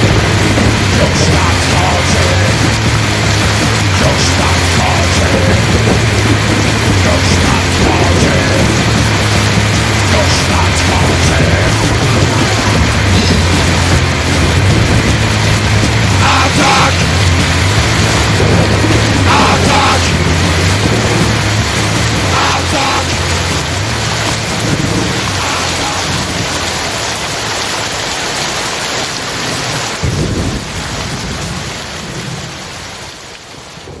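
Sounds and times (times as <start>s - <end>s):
thunder rumbling: 0.0s - 28.0s, 29.2s - 33.2s
loud dense music with bass: 0.0s - 28.1s
heavy rain hissing: 0.0s - 34.0s.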